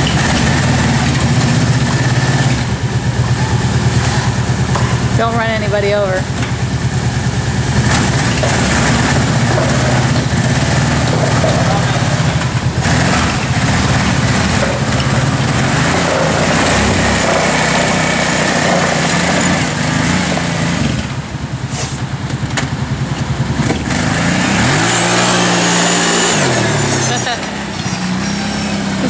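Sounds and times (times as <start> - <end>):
quad engine revving: 0.0 - 29.0.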